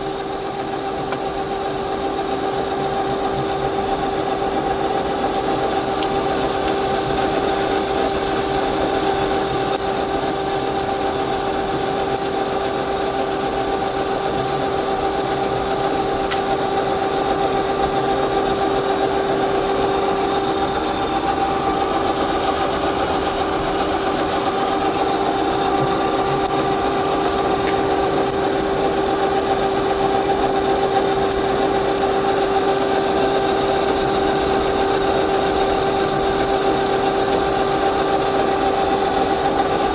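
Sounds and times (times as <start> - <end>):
metalworking machine humming: 0.0 - 39.9.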